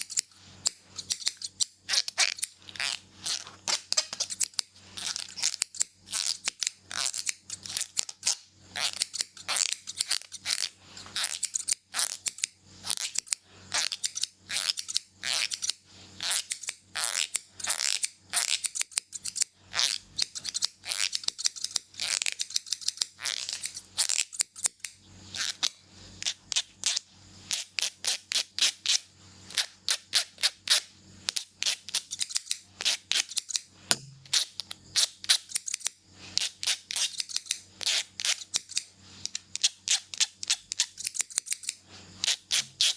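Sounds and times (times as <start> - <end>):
scissors snipping hair: 0.0 - 42.9.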